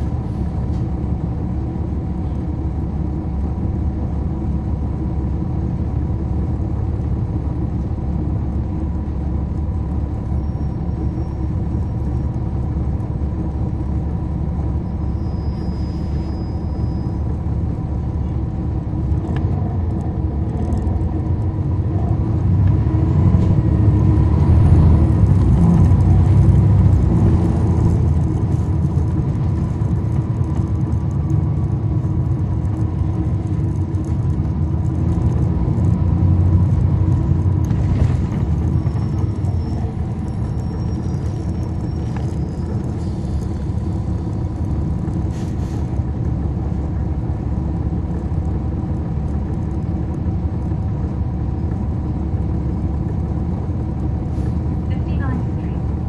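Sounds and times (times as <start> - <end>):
bus diesel engine rumbling: 0.0 - 56.0.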